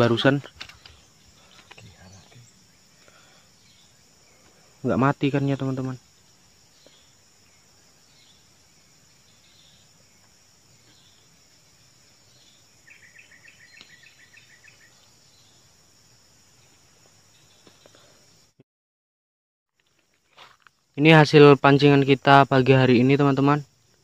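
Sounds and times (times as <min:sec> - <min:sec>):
insect chirps: 0:00.0 - 0:18.6, 0:19.7 - 0:24.0
insects trilling: 0:00.0 - 0:18.6, 0:19.8 - 0:24.0.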